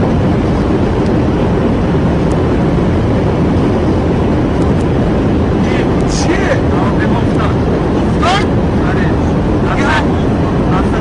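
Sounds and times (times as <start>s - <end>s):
aircraft roar: 0.0s - 11.0s.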